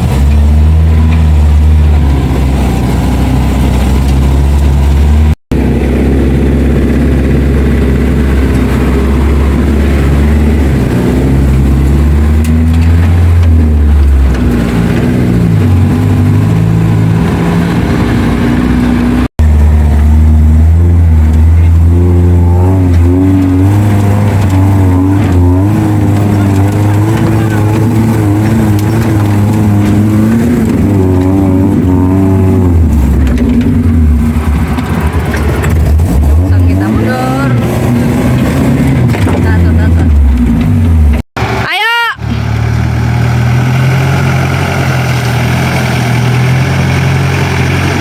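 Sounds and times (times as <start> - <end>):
off-road engine revving: 0.0 - 48.0.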